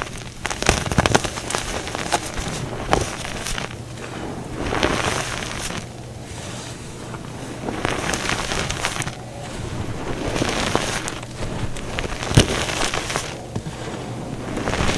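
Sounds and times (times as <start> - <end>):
chalk snapping: 0.0 - 4.1, 4.7 - 14.9
chalk crunching and crackling: 0.0 - 14.9.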